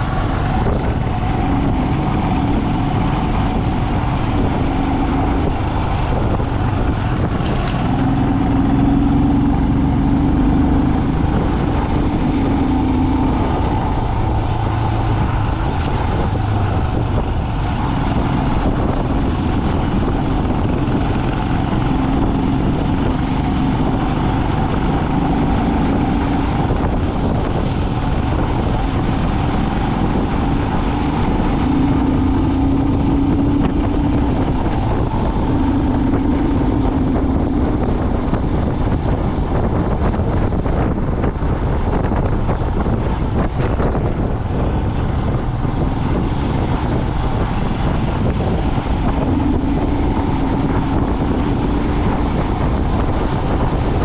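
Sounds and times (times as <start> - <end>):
low hum: 0.0 - 54.0
vehicle engine and road rumble: 0.0 - 54.0.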